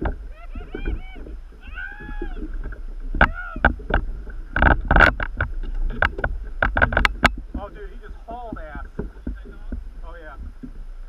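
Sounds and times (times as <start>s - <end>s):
knocks and clatter on kayak: 0.0s - 11.0s.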